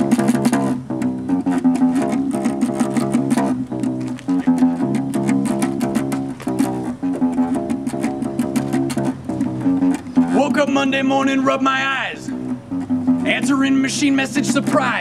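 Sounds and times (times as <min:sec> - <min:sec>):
bass guitar plucked notes: 0:00.0 - 0:15.0.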